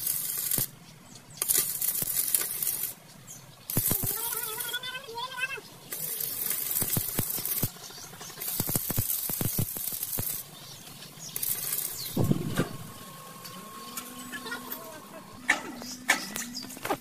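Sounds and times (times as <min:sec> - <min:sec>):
welding arc crackling hiss: 0:00.0 - 0:00.8, 0:01.4 - 0:03.0, 0:03.6 - 0:17.0.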